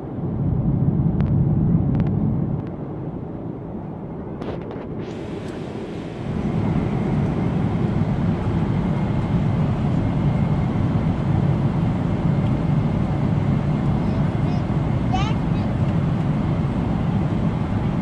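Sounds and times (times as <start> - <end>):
jet engine and airflow rumble: 0.0 - 18.0.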